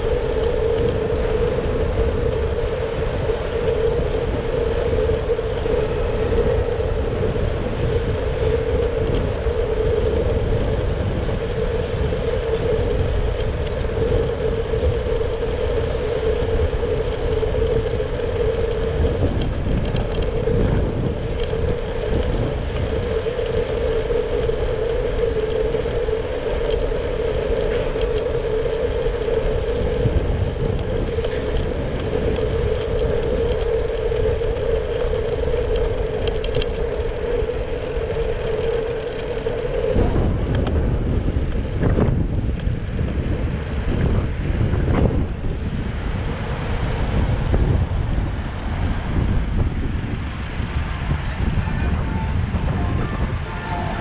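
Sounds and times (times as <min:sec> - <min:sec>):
bike humming whir: 0:00.0 - 0:54.0
bike tyres rumbling on road: 0:00.0 - 0:54.0
traffic: 0:00.0 - 0:54.0.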